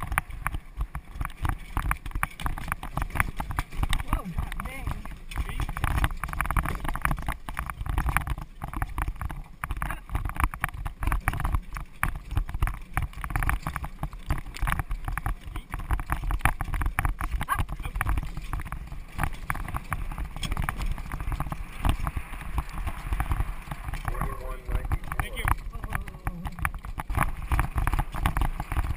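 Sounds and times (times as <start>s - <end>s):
carriage rattling: 0.0s - 28.9s
horse hooves on dirt: 0.0s - 28.9s
wheels rumbling: 0.0s - 28.9s
wind: 0.0s - 28.9s.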